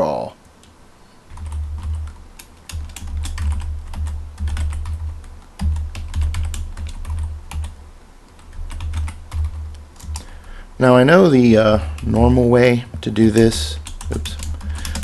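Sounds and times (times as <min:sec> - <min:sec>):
computer keyboard typing: 0:01.3 - 0:10.5, 0:11.6 - 0:12.4, 0:13.0 - 0:15.0.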